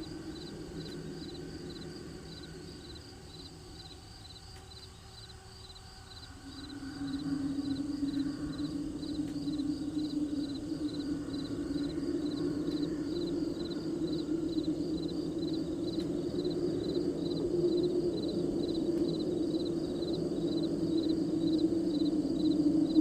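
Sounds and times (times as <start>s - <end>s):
crickets chirping: 0.0s - 23.0s
steady low hum: 0.0s - 23.0s.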